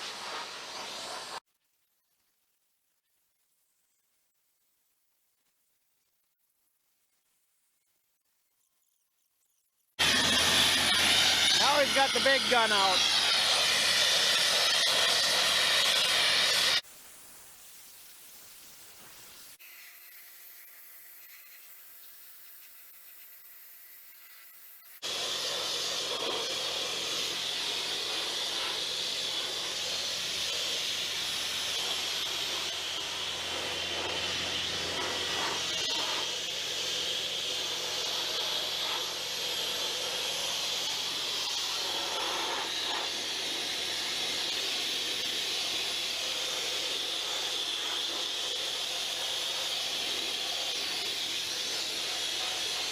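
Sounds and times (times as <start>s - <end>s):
sandblasting hiss: 0.0s - 1.4s, 10.0s - 23.3s, 24.0s - 52.9s.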